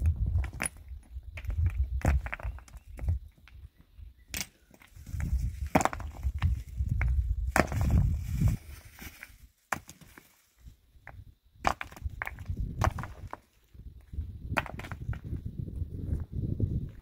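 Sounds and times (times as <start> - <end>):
rocks clacking together: 0.0 - 3.7, 4.3 - 10.3, 11.0 - 15.4
wind rumble on microphone: 0.0 - 4.3, 4.9 - 9.4, 10.6 - 17.0.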